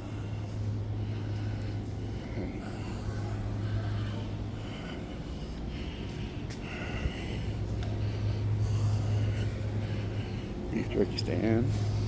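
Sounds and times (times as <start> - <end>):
faint background noise: 0.0 - 12.0
steady low hum: 0.0 - 12.0.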